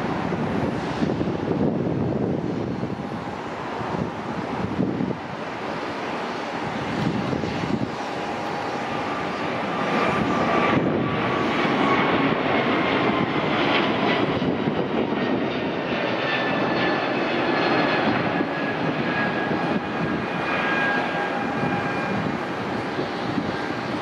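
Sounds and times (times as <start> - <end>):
jet engines whining at takeoff: 0.0 - 24.0.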